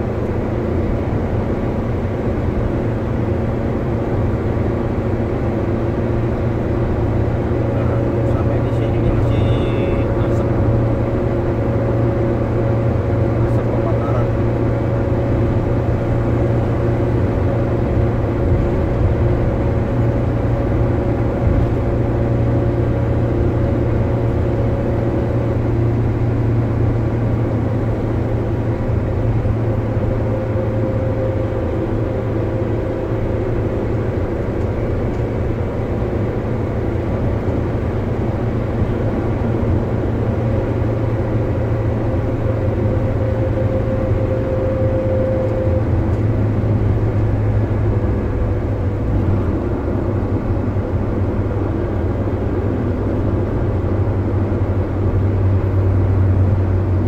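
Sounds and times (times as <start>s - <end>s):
engine drone inside car: 0.0s - 57.0s.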